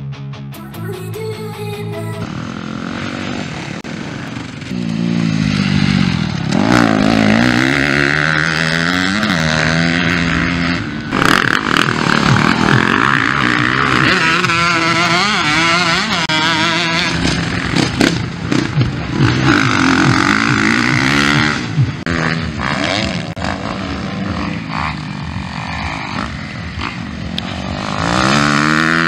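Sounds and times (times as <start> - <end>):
dirt bike engines at full throttle: 2.1 - 29.0.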